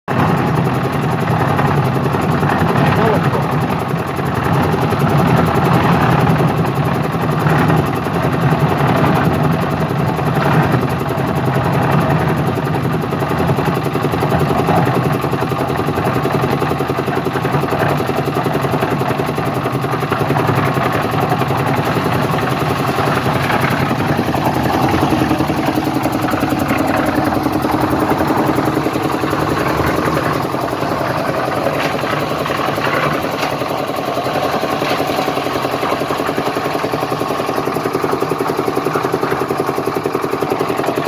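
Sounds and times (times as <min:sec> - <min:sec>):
concrete mixer engine running: 0:00.1 - 0:41.0.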